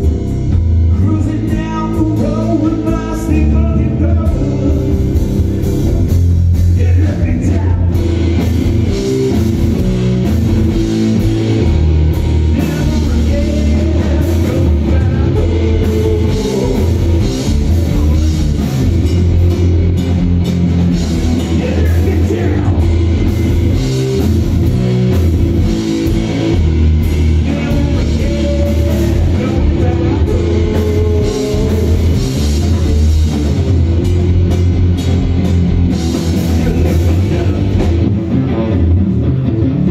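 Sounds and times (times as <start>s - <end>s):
drum kit: 0.0s - 39.9s
electric bass: 0.0s - 39.9s
electric guitar: 0.0s - 39.9s.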